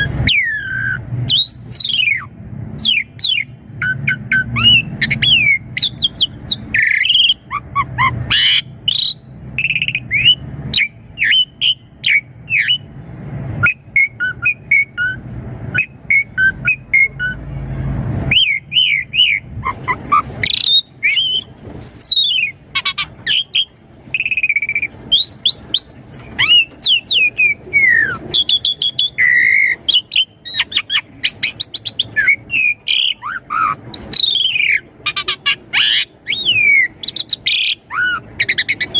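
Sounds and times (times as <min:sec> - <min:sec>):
starling singing: 0:00.0 - 0:13.0, 0:13.6 - 0:17.6, 0:18.3 - 0:38.9.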